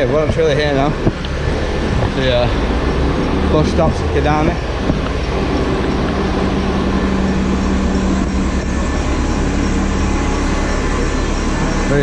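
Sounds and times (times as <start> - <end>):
steady hum: 0.0 - 12.0
vehicle engine rumbling: 0.0 - 12.0.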